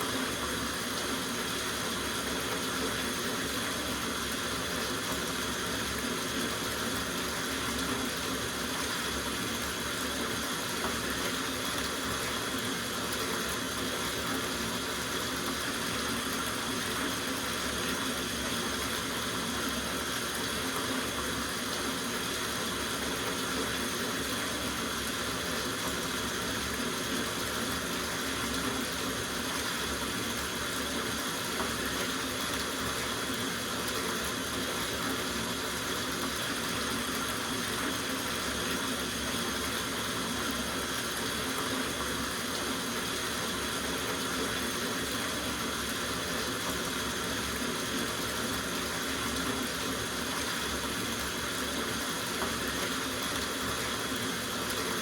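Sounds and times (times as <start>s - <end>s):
tap water running into bathtub: 0.0s - 55.0s.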